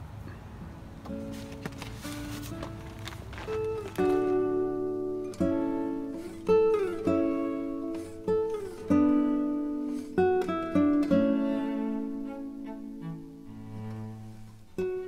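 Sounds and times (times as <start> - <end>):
plucked string instrument chords: 0.6 - 15.0.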